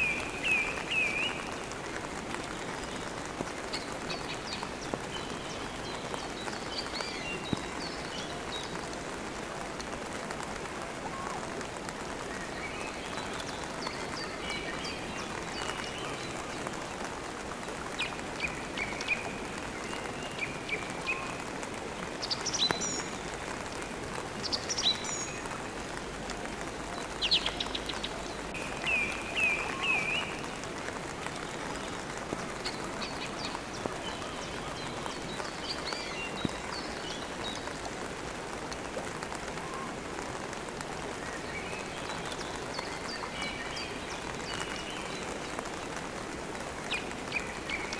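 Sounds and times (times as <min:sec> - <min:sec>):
songbirds chirping: 0:00.0 - 0:47.9
steady rain: 0:00.0 - 0:47.9.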